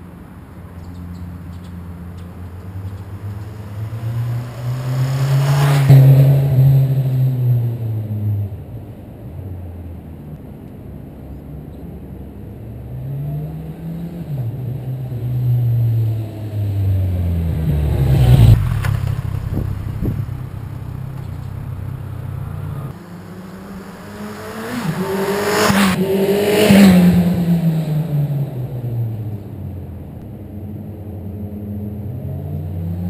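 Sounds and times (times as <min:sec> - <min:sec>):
motorcycle engine accelerating: 0:01.1 - 0:08.6, 0:12.7 - 0:33.0.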